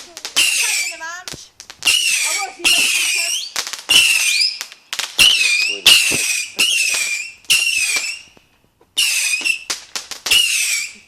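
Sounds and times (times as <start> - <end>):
firework pops and crackles: 0.0 - 11.0
whistling fireworks: 0.0 - 11.0.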